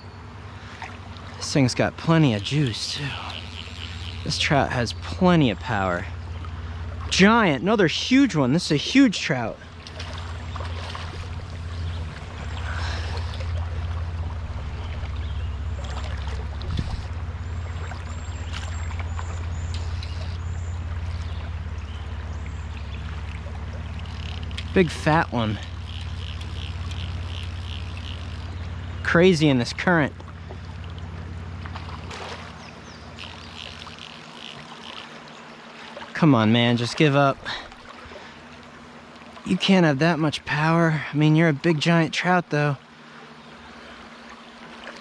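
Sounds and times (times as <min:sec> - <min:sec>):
steady low hum: 0:00.0 - 0:45.0
river current rushing: 0:00.5 - 0:39.5.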